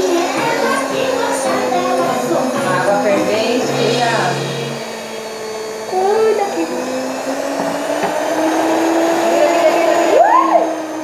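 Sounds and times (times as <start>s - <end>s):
stand mixer motor whining: 0.0s - 11.0s.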